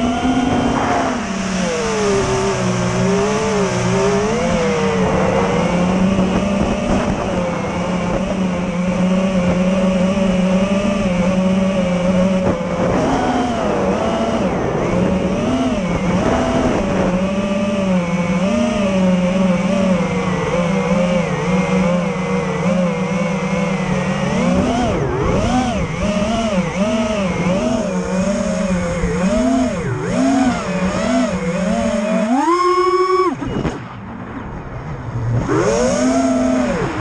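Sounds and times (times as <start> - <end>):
drone motors whining: 0.0 - 37.0.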